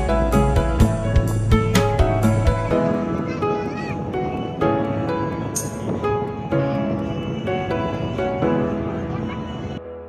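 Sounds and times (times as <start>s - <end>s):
background music melody: 0.0s - 10.0s.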